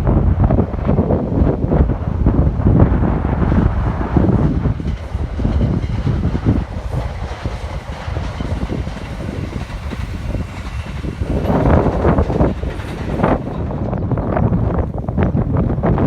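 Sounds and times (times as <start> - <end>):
train rumbling past: 0.0 - 16.0
wind buffeting microphone: 0.0 - 16.0.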